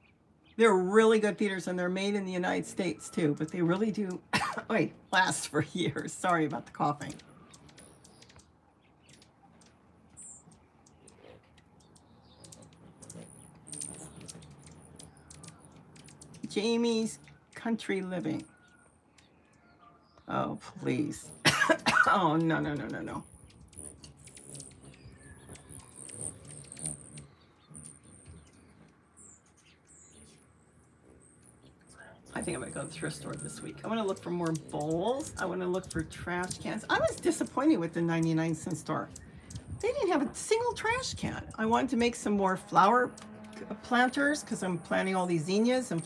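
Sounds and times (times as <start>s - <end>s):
hummingbird chirps: 0.0s - 46.0s
faint irregular clicking: 6.0s - 20.3s, 21.7s - 29.8s, 31.2s - 46.0s.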